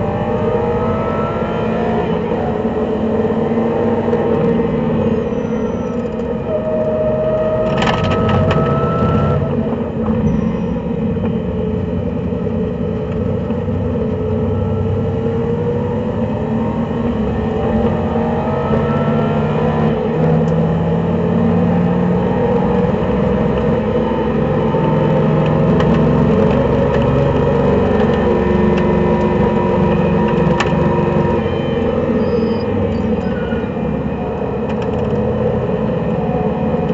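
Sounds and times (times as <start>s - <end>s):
race car engine under load: 0.0s - 36.9s.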